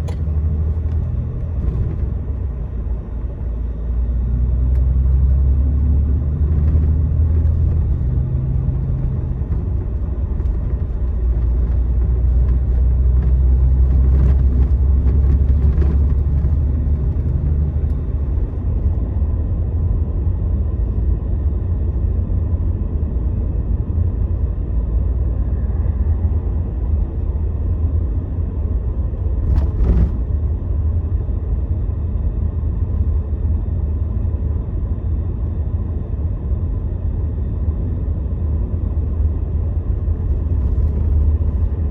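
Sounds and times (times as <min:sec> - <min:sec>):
coach engine and road rumble: 0:00.0 - 0:41.9.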